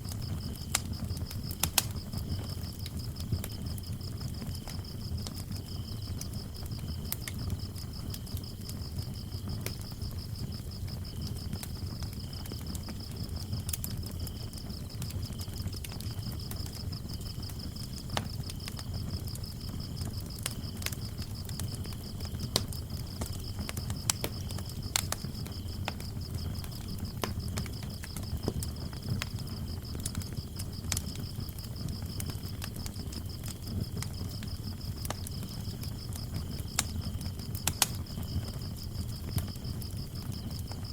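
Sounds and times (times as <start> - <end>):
crickets chirping: 0.0 - 40.9
wood fire crackling and popping: 0.0 - 40.9.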